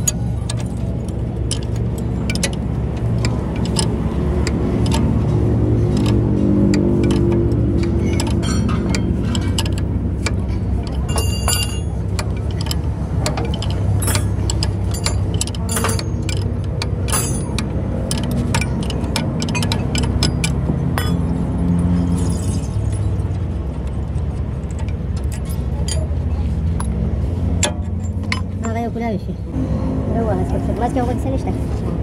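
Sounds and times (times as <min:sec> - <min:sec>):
tools tapping on metal: 0:00.0 - 0:23.4, 0:24.6 - 0:28.9
low hum: 0:00.0 - 0:32.0.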